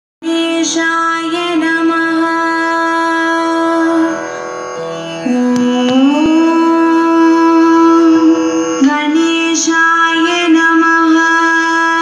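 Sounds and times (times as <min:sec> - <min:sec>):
indian classical melodic music: 0:00.2 - 0:12.0.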